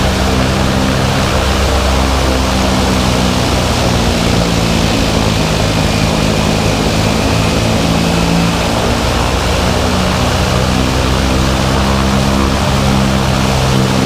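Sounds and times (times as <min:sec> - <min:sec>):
propeller aircraft engine drone: 0:00.0 - 0:14.0
rushing noise: 0:00.0 - 0:14.0.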